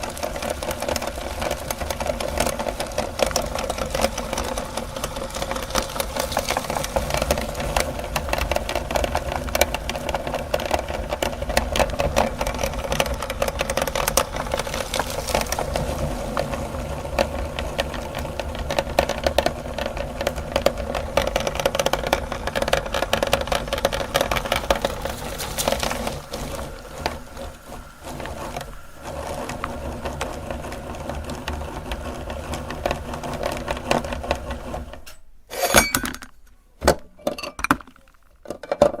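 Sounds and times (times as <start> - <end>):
meat grinder motor hum: 0.0 - 35.0
grinding crackle: 0.0 - 36.5.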